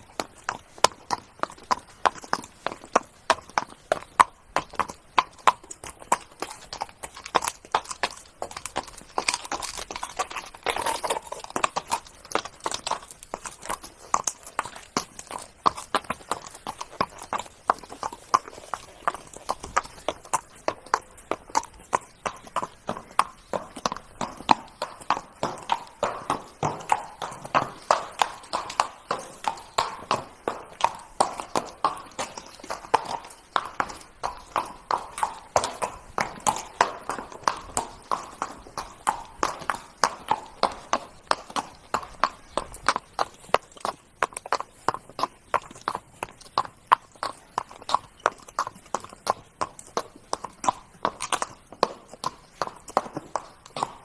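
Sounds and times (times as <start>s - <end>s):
horse hooves trotting: 0.0s - 54.0s.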